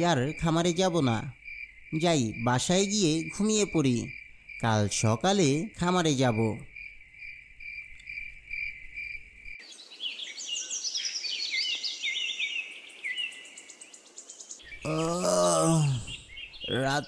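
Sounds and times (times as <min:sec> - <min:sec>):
crickets chirping: 0:00.0 - 0:17.0
songbirds twittering: 0:00.0 - 0:17.0.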